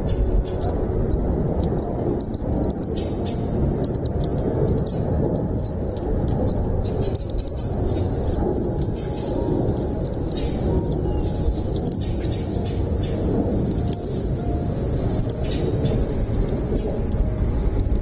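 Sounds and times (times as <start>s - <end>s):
birds chirping: 0.0s - 18.0s
loud low rumbling: 0.0s - 18.0s.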